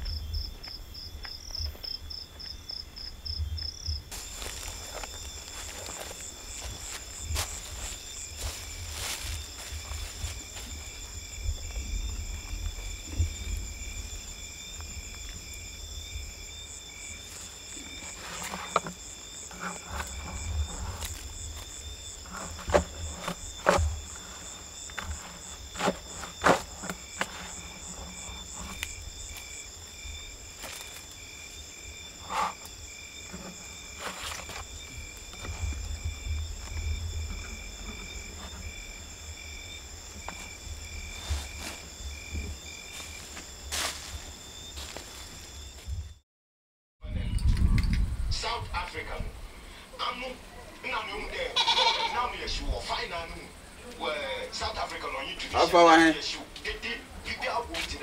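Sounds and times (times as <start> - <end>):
insects chirring: 0.0 - 46.2, 47.0 - 58.0.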